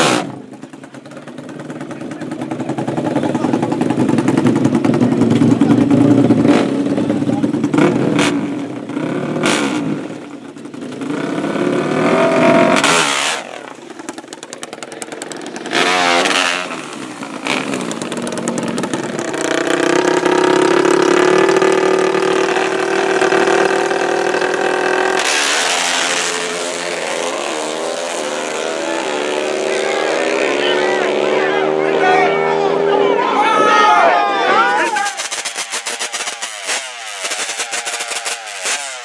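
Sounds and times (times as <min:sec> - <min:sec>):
racing atv engines revving: 0:00.0 - 0:39.0.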